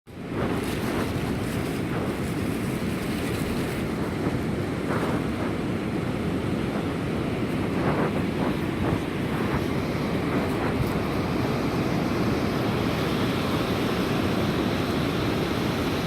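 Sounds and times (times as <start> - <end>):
surf washing on a beach: 0.1 - 16.0
wind buffeting microphone: 0.1 - 16.0.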